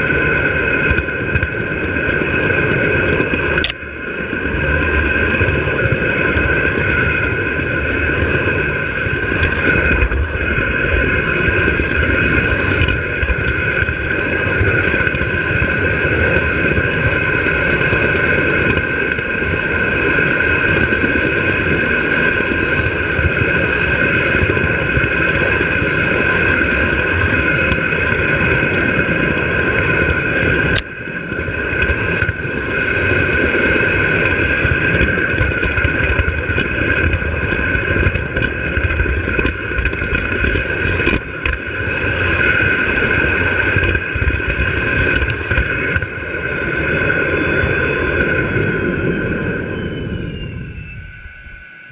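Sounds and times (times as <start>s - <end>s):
model train motor whine: 0.0s - 51.9s
wheels rumbling on metal rails: 0.0s - 51.9s.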